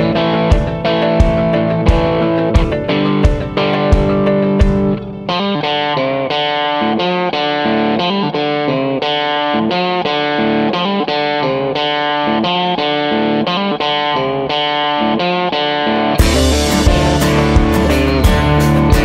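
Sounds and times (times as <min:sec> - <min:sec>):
picked guitar with effects: 0:00.0 - 0:19.0.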